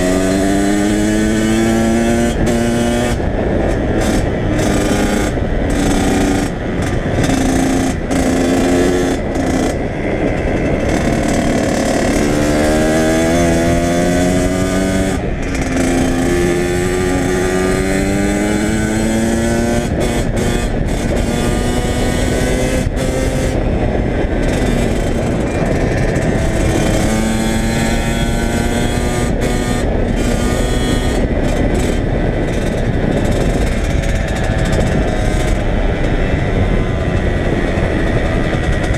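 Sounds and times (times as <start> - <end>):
dirt bike engine accelerating: 0.0 - 38.9.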